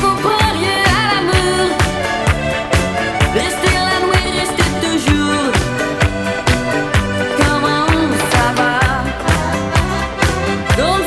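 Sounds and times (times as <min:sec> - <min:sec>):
kick drum beat: 0:00.0 - 0:11.0
pop background music: 0:00.0 - 0:11.0
singing melody: 0:00.0 - 0:11.0.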